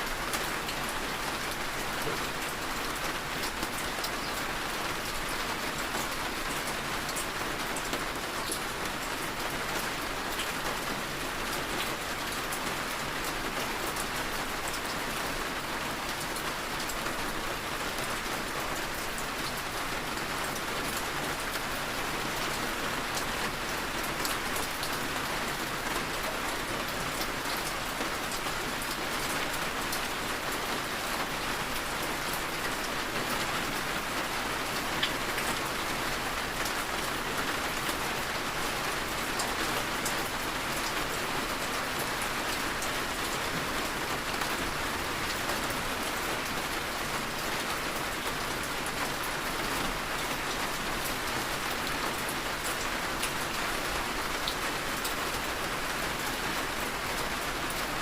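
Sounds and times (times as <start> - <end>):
heavy rain falling: 0.0 - 58.0
raindrops ticking on surfaces: 0.1 - 58.0.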